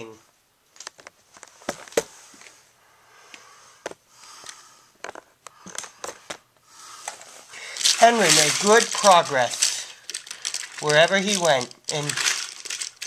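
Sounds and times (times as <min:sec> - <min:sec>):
soft rustling hiss: 0:00.0 - 0:13.0.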